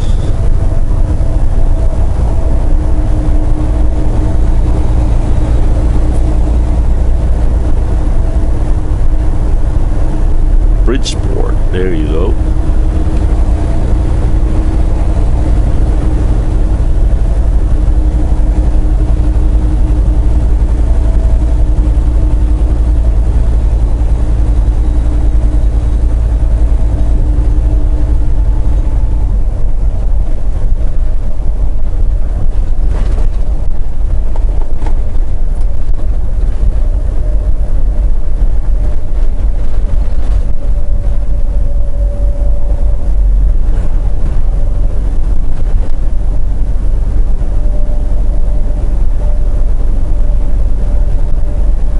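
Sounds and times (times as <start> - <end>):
road noise inside cab: 0.0 - 51.9
truck engine drone: 0.0 - 51.9.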